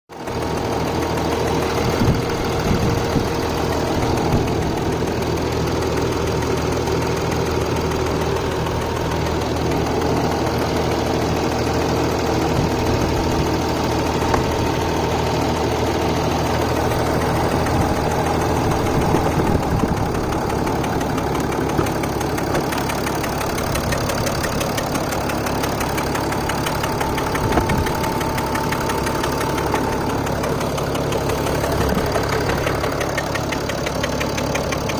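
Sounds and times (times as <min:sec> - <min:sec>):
diesel engine ticking: 0:00.1 - 0:34.9.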